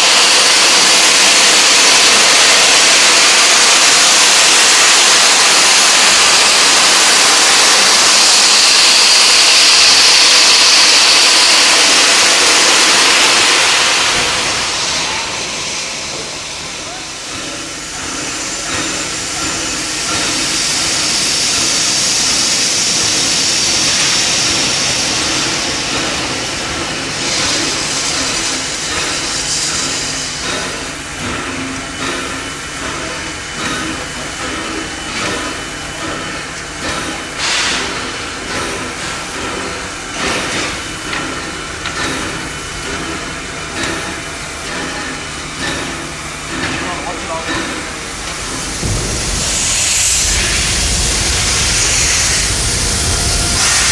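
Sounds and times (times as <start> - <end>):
steam locomotive exhaust puffs: 0.0 - 53.9
steam locomotive hissing: 0.0 - 53.9.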